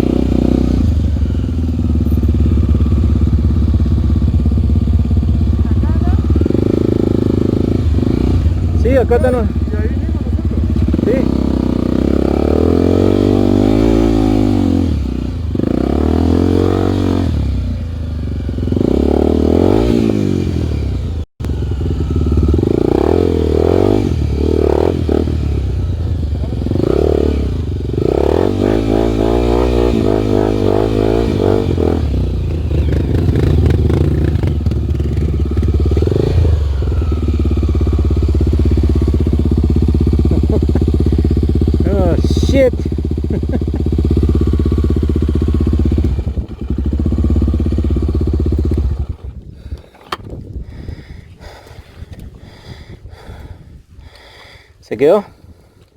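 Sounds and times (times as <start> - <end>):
motorcycle engine revving: 0.0 - 49.7.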